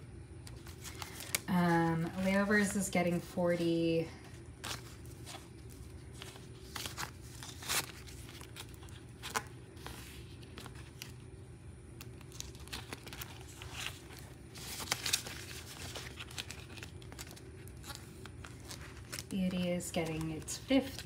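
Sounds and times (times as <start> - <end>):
paper banknotes rustling: 0.4 - 11.3, 12.0 - 21.0
plastic pouch crinkling: 0.5 - 2.3, 4.4 - 11.3, 12.0 - 21.0.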